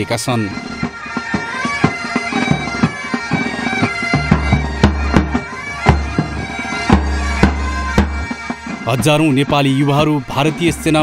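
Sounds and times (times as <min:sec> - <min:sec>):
bagpipes playing: 0:00.0 - 0:11.0
drum strokes: 0:00.6 - 0:11.0.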